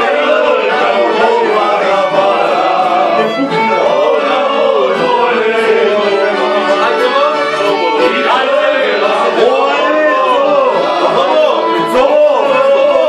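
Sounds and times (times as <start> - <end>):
men singing: 0.0 - 13.0
violin melody: 0.0 - 13.0.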